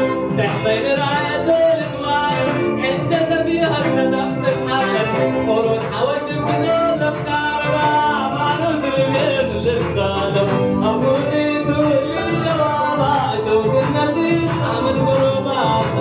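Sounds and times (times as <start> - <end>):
dance music with steady beat: 0.0 - 16.0
man singing into a microphone: 0.0 - 16.0.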